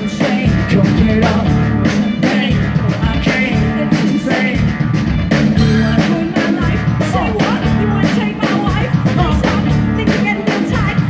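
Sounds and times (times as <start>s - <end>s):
drum kit beat: 0.0s - 11.0s
rock band playing: 0.0s - 11.0s.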